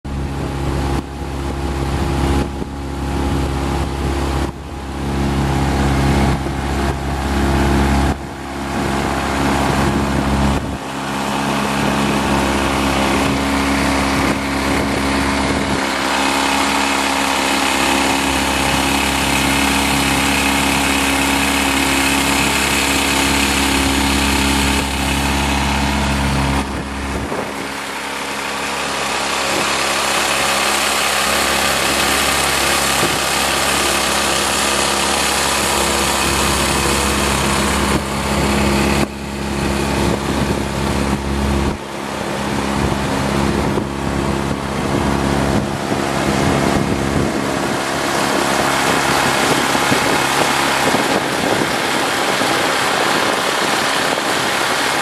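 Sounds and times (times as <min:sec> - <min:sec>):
outboard motor running: 0:00.0 - 0:55.0
water rushing past hull: 0:00.1 - 0:55.0
wind buffeting microphone: 0:00.1 - 0:55.0.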